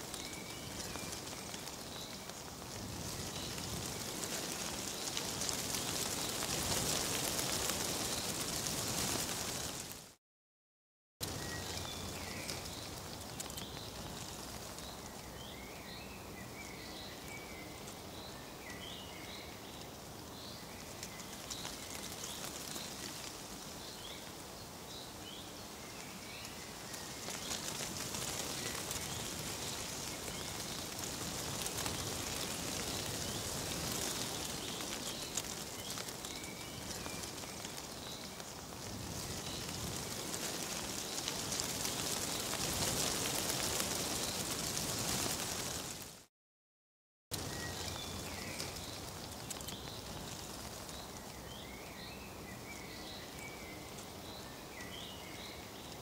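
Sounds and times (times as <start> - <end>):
rustling leaves: 0.0 - 10.2, 11.2 - 46.3, 47.3 - 56.0.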